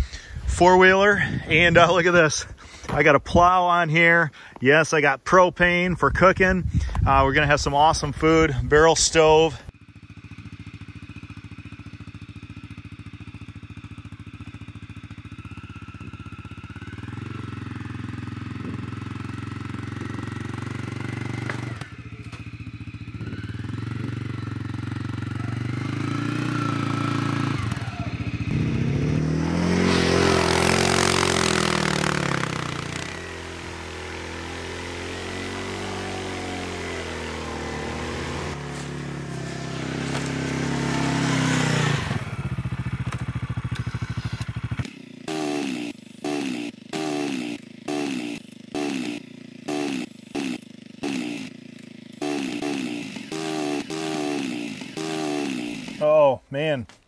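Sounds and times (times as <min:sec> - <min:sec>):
atv engine revving: 0:06.8 - 0:56.7.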